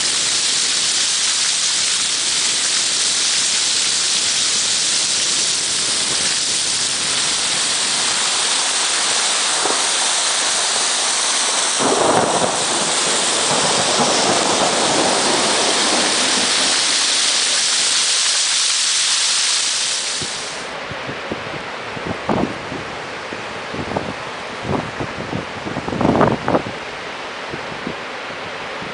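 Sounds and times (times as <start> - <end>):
floodwater rushing: 0.0 - 28.9
heavy rain hissing: 0.0 - 28.9.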